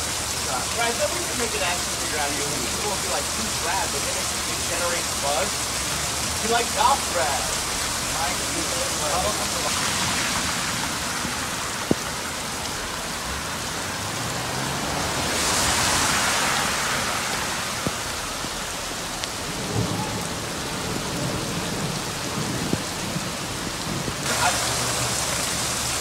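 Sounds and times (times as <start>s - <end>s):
heavy rain pouring: 0.0s - 26.0s
tyres rushing through water: 0.0s - 26.0s.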